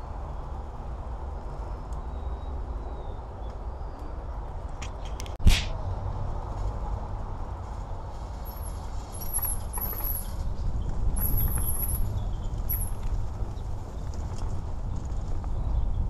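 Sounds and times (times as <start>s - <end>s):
bike rattles and clicks: 0.0s - 16.0s
wind rumble on microphone: 0.0s - 16.0s.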